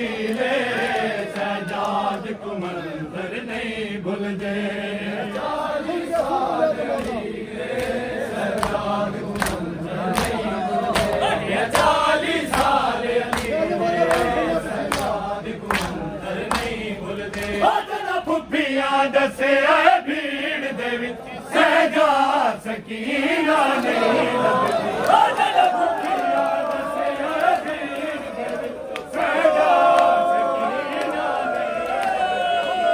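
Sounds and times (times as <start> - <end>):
men chanting in chorus: 0.0 - 32.9.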